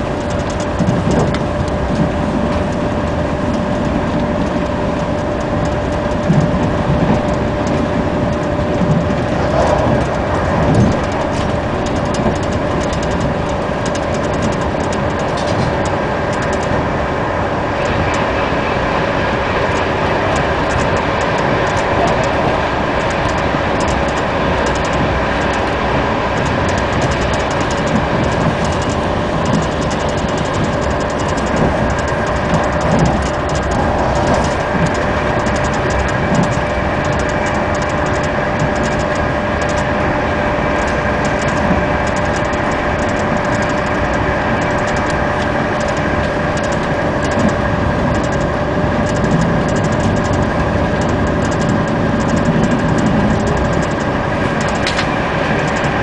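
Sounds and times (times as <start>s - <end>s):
constant tone: 0.0s - 56.0s
train wheels rumbling on rails: 0.0s - 56.0s
light rapid clicking: 0.2s - 16.8s, 19.7s - 39.9s, 40.7s - 56.0s.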